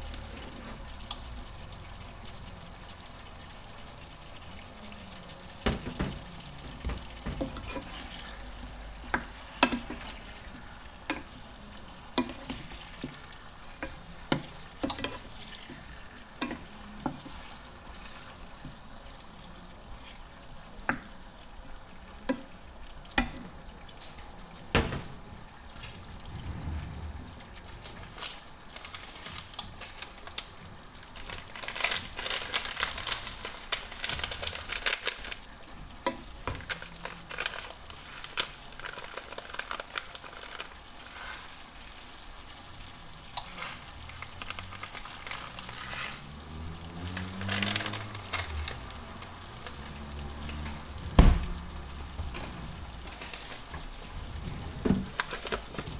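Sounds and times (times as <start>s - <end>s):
food sizzling in a pan: 0.0s - 55.9s
oil crackling: 0.0s - 55.9s.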